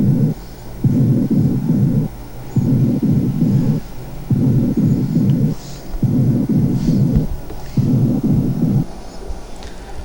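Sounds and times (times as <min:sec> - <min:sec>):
muffled low bursts through stethoscope: 0:00.0 - 0:08.9.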